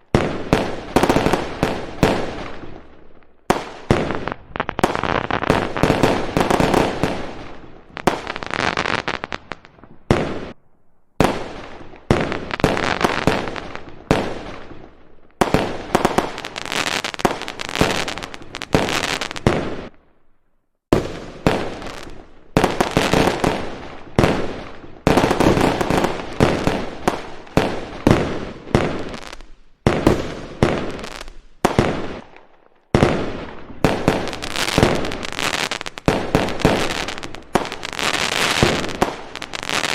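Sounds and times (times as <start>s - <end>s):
fireworks bangs and crackling: 0.0s - 10.6s, 11.2s - 20.1s, 20.9s - 39.9s.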